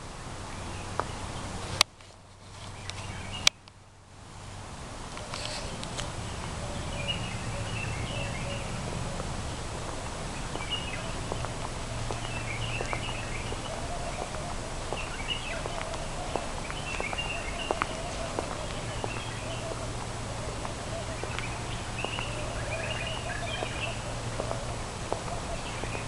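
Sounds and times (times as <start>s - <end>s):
small birds twittering: 0.4s - 1.8s, 2.6s - 3.8s, 5.1s - 26.0s.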